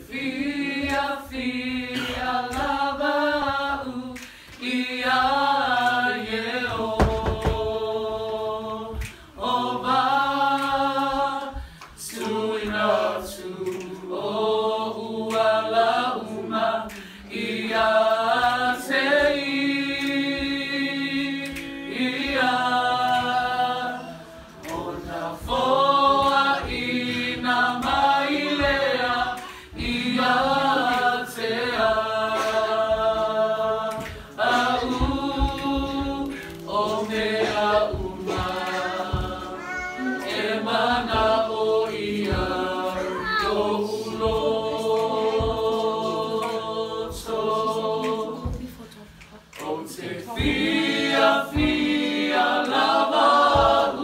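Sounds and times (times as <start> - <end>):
group singing a hymn unaccompanied: 0.0 - 54.0.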